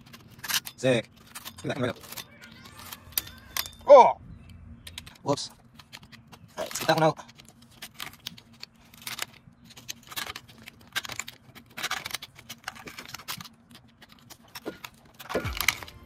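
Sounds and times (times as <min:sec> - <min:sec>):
steel tool clicking and scraping metal: 0:00.0 - 0:03.9, 0:04.8 - 0:16.0.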